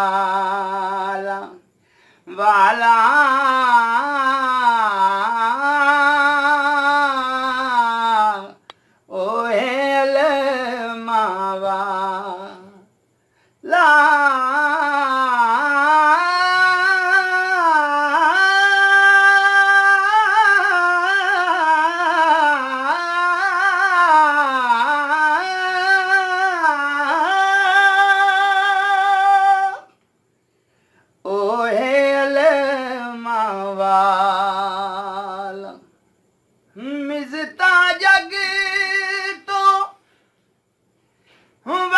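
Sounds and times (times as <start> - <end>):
man singing unaccompanied: 0.0 - 30.0, 31.2 - 36.0, 36.7 - 40.1, 41.3 - 41.9.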